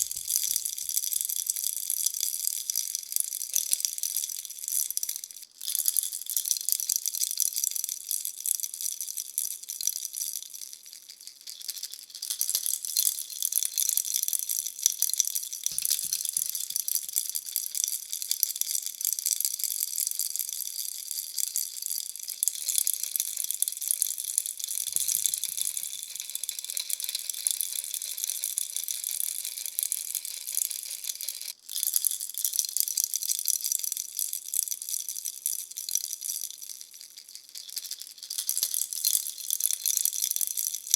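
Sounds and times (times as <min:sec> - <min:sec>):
baby rattle shaken: 0:00.0 - 0:07.8, 0:09.0 - 0:40.9.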